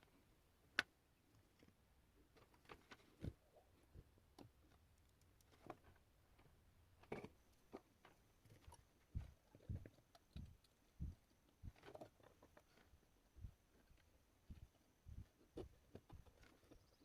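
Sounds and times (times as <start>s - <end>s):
faint clicks and light knocks: 0.7s - 17.0s.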